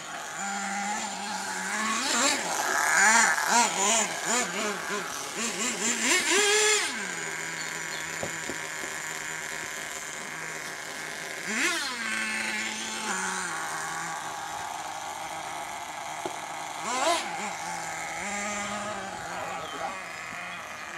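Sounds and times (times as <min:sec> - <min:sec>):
rc truck engine revving and idling: 0:00.0 - 0:20.9.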